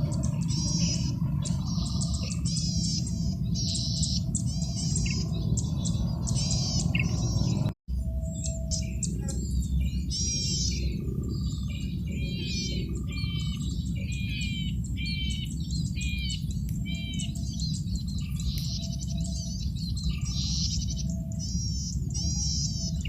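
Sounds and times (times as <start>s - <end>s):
bird singing rapid chirping phrases: 0.0s - 23.0s.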